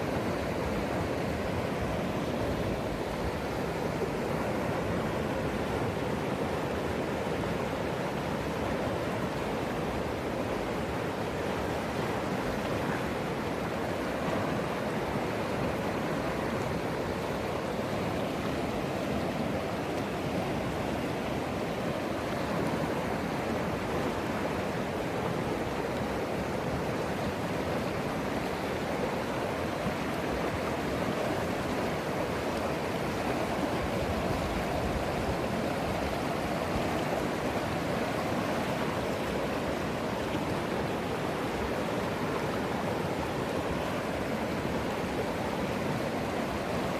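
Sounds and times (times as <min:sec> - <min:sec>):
fast river water rushing: 0:00.0 - 0:46.9.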